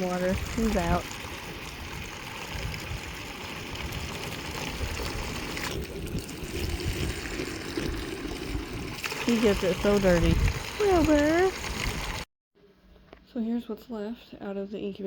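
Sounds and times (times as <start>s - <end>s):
hose water running into dish: 0.0s - 12.3s.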